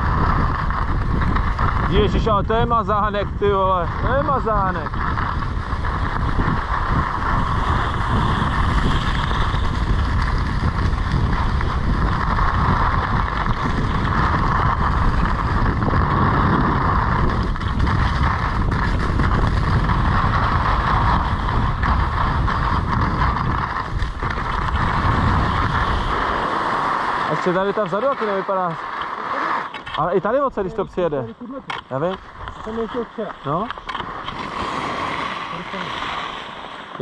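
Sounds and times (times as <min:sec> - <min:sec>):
wind buffeting microphone: 0:00.0 - 0:35.9
skis scraping on snow: 0:00.0 - 0:37.0.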